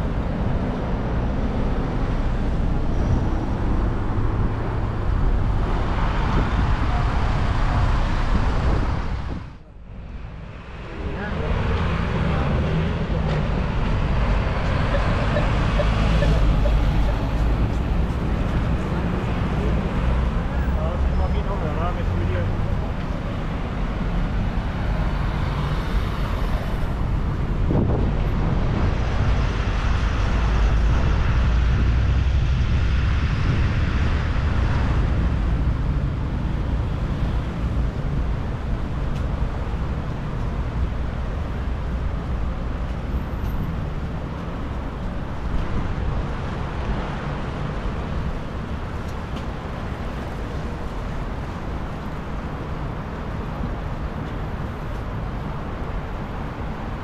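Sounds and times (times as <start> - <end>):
cars passing: 0.0 - 57.0.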